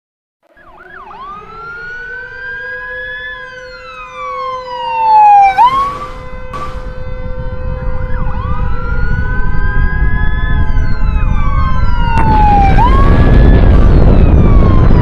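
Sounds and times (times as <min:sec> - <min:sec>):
wailing alarm siren: 0:00.5 - 0:15.0
steady low drone: 0:00.6 - 0:15.0.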